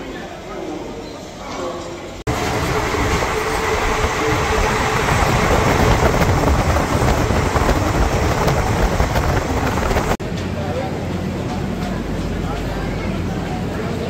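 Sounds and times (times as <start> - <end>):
train rumbling and rattling: 2.2 - 14.0.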